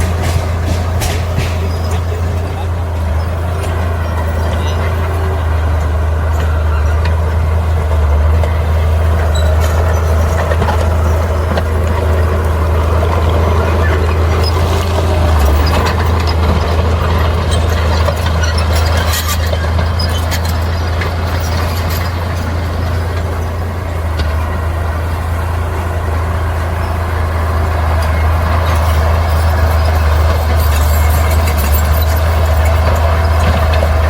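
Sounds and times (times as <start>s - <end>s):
metal clanks and knocks: 0.0s - 7.6s, 8.3s - 24.7s, 27.8s - 34.0s
diesel engine drone: 0.0s - 34.0s.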